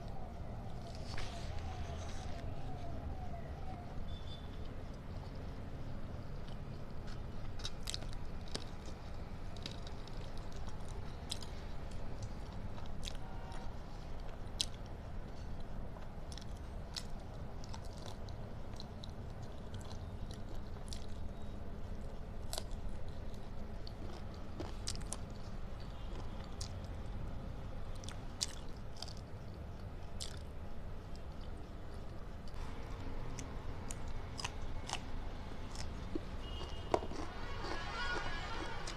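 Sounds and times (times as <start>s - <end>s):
chewing and crunching food: 0.0s - 38.9s
steady low hum: 0.0s - 38.9s.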